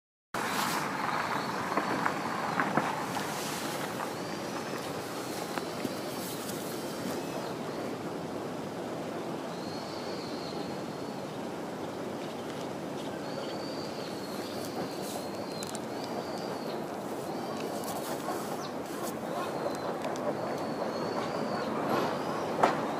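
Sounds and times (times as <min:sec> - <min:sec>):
outdoor background noise: 0:00.4 - 0:22.9.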